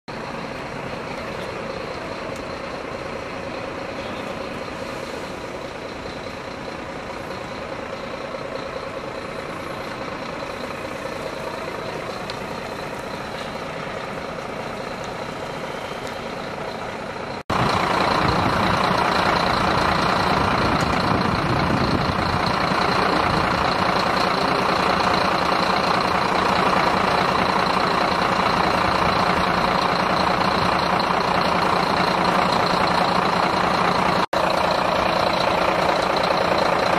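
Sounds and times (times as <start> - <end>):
fire engine idling: 0.1 - 36.9.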